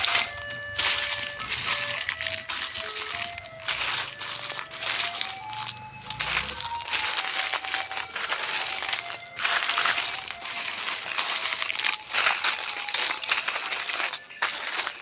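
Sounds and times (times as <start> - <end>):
crunching crinkling noise: 0.0 - 15.0.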